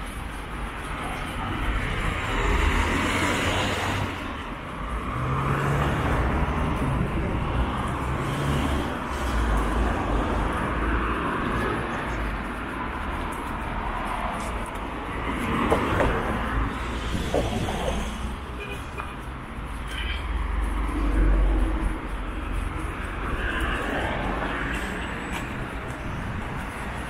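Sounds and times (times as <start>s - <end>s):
cars passing on a street: 0.0s - 27.0s.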